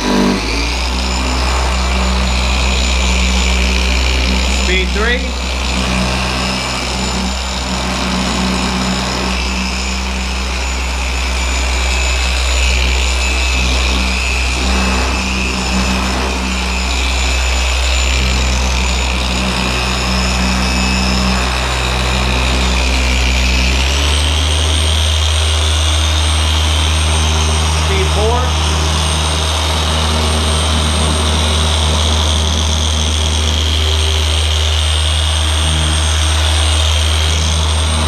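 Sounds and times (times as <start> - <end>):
polisher motor humming and whining: 0.0 - 38.0.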